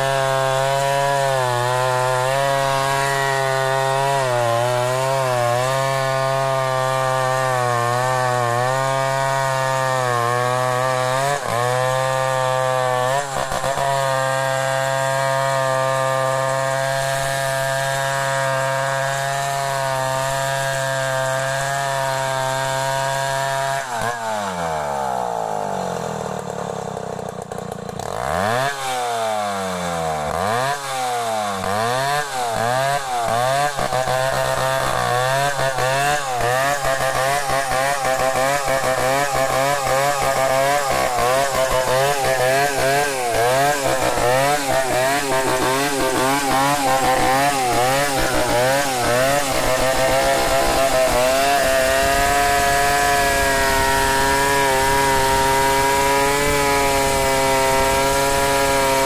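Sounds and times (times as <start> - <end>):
chainsaw cutting log: 0.0 - 59.0
chainsaw engine revving: 0.0 - 59.0.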